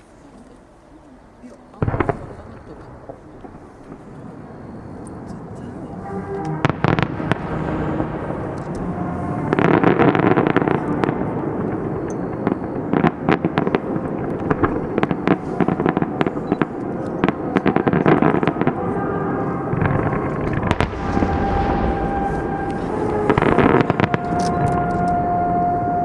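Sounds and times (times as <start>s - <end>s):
fireworks bangs and crackling: 1.7s - 26.0s.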